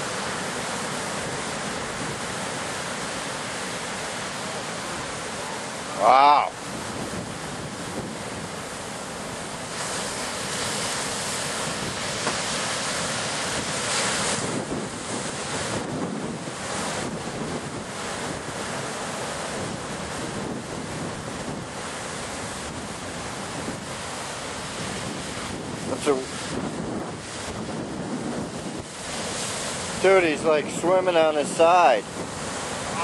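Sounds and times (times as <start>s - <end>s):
wind on microphone: 0.0s - 3.3s, 4.8s - 33.0s
ocean surf: 0.0s - 33.0s.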